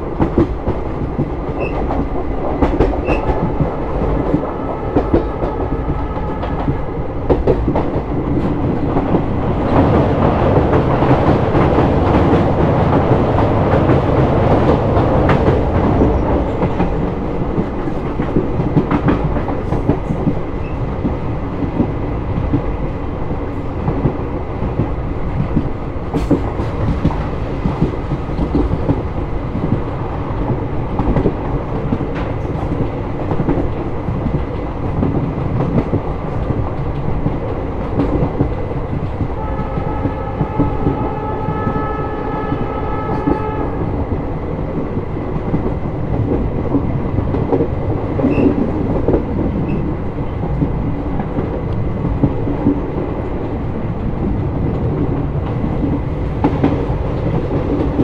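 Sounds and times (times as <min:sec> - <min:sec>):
train coach rumble: 0:00.0 - 0:58.0.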